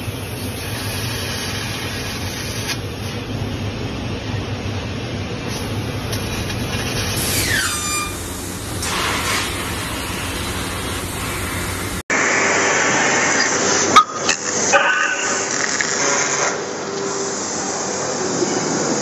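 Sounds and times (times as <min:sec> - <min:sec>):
laser cutting machine hissing: 0:00.0 - 0:03.2, 0:05.5 - 0:19.0
machine noise with steady tones: 0:00.0 - 0:19.0.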